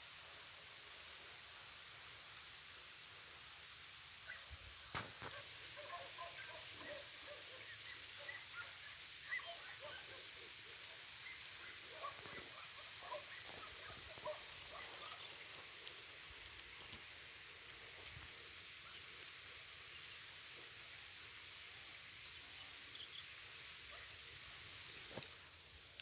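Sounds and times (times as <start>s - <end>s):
light rain hiss: 0.0s - 26.0s.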